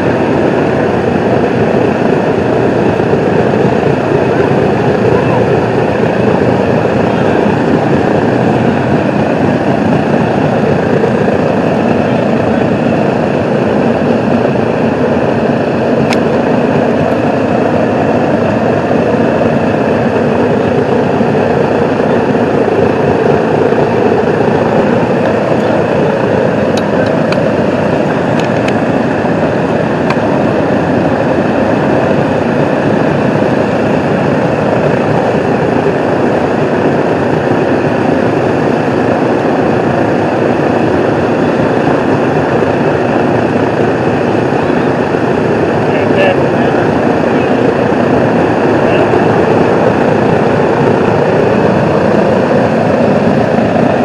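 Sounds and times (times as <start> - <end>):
propeller engines idling: 0.0 - 54.0.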